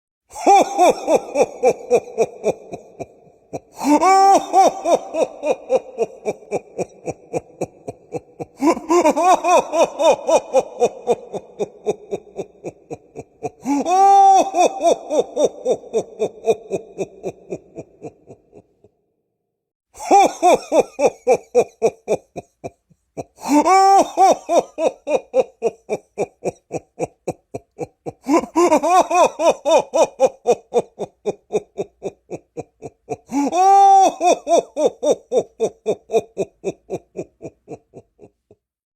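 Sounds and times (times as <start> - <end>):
man laughing ho ho ho: 0.3 - 18.9, 20.0 - 38.6.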